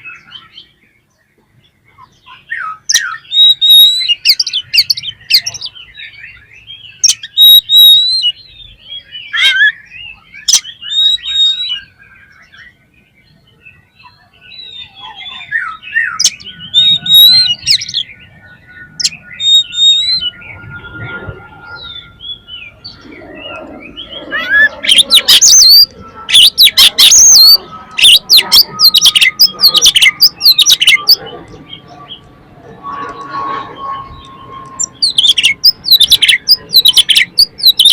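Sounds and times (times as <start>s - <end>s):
bird singing whistled phrases: 1.9s - 37.9s.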